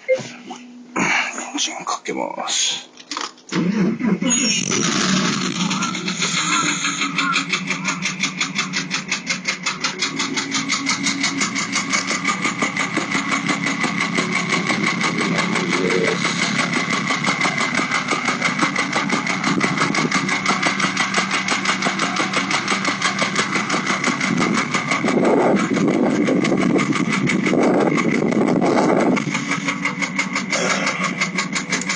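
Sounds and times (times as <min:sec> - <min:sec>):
car engine idling with knock: 0:04.7 - 0:31.9.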